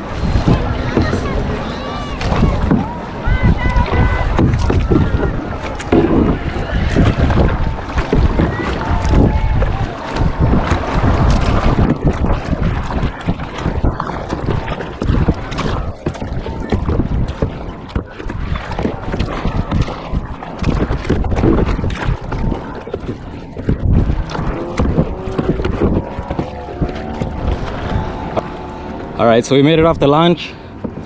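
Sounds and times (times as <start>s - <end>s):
water splashing around kayak: 0.0s - 31.0s
wind buffeting microphone: 0.0s - 31.0s.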